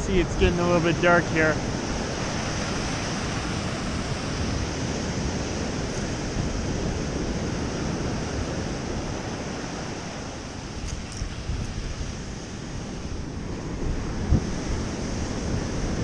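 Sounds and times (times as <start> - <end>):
ocean surf washing on beach: 0.0 - 16.0
wind buffeting microphone: 0.0 - 16.0.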